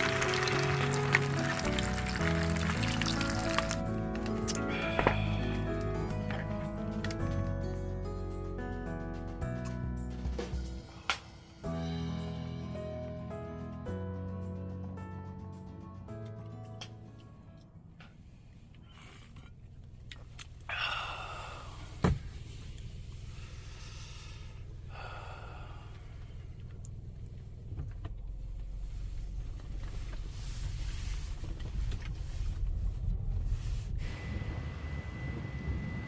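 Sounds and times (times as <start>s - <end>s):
car engine rumble: 0.0s - 36.0s.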